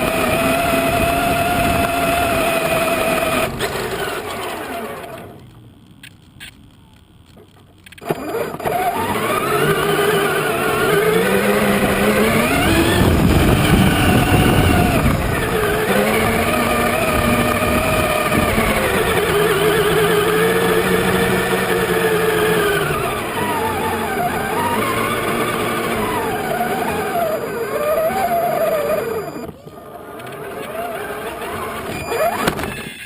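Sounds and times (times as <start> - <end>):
electric motor whining: 0.0 - 6.6, 7.9 - 33.0.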